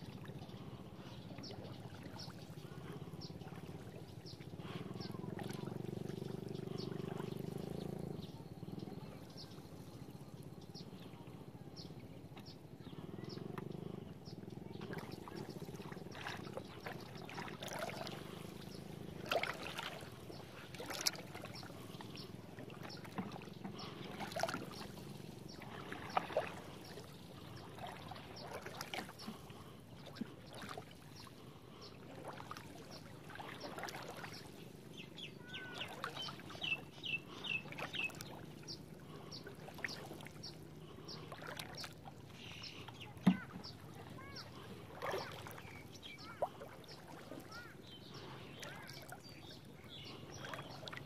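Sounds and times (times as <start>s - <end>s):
water splashing and trickling: 0.0s - 12.4s, 14.5s - 51.0s.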